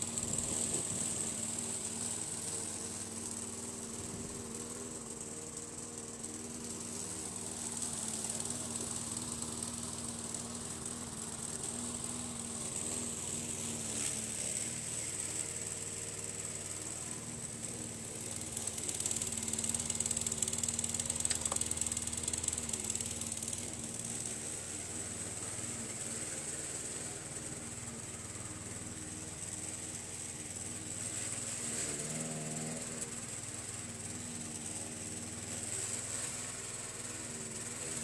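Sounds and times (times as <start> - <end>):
lawn mower running: 0.0 - 38.0.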